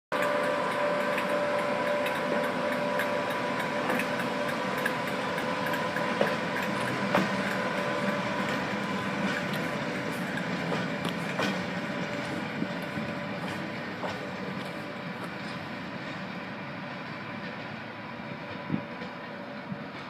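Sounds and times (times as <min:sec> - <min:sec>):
electric locomotive humming: 0:00.1 - 0:20.0
wheels clicking on track: 0:00.1 - 0:20.0.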